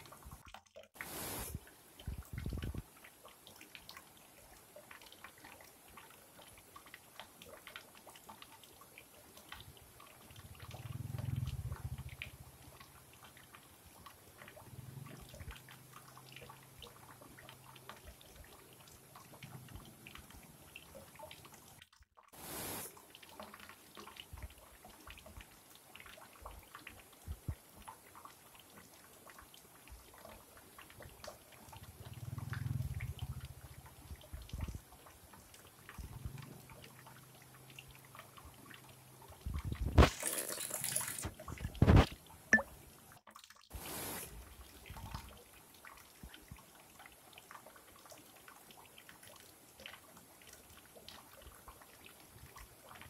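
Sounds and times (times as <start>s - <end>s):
water drips: 0.0s - 43.8s, 44.5s - 53.0s
stream water over rocks: 0.0s - 53.0s.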